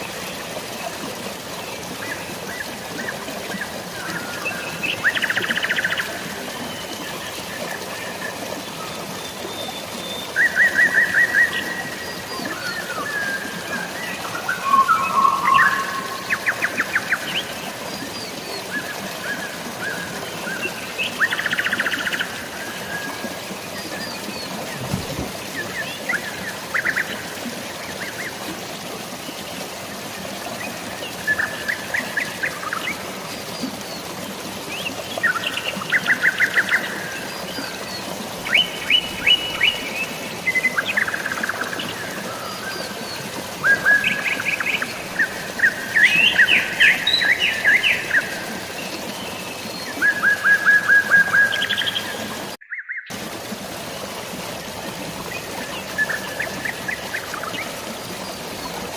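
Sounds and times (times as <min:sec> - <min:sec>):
rain hiss: 0:00.0 - 0:58.9
running water: 0:00.0 - 0:58.9.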